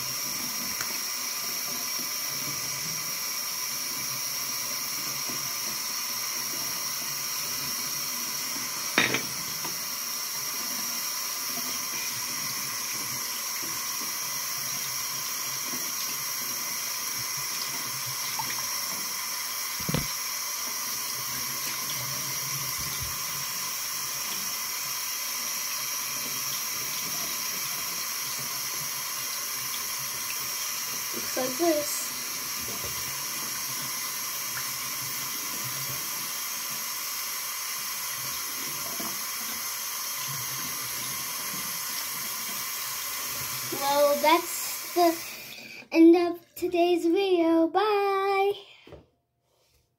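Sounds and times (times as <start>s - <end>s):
faucet running into sink: 0.0s - 45.8s.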